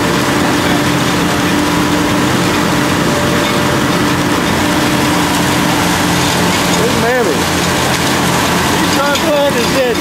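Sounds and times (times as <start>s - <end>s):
boat machinery drone: 0.0s - 10.0s.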